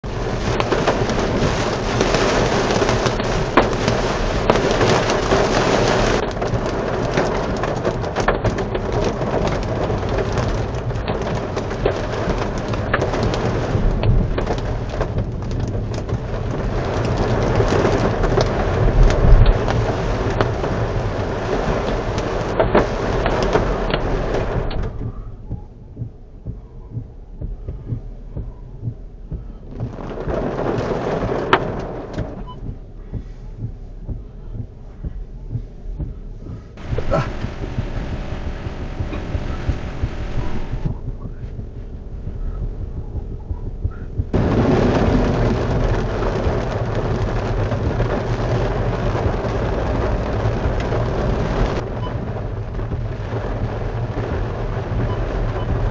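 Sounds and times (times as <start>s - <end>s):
low thunder rumble: 0.0s - 55.9s
rain and hail drumming on car roof: 0.0s - 55.9s.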